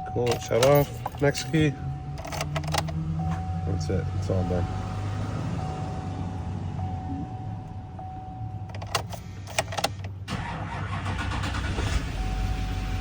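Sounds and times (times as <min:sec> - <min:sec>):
car interior hum: 0:00.0 - 0:13.0.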